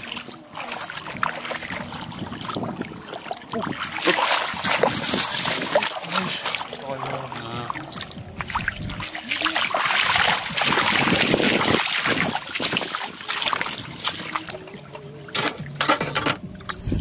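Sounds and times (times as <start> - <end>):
splashing in shallow water: 0.0 - 16.8.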